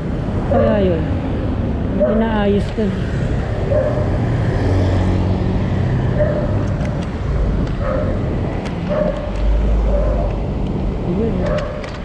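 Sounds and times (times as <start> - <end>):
vehicle and road rumble: 0.0 - 12.0.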